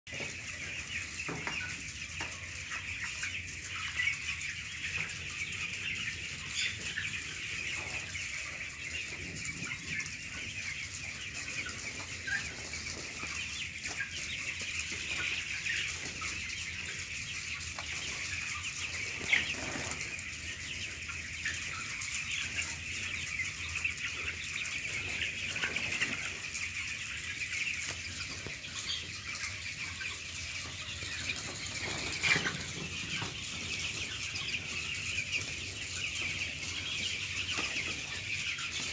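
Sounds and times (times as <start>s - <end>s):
chickens clucking and cheeping: 0.1s - 38.9s.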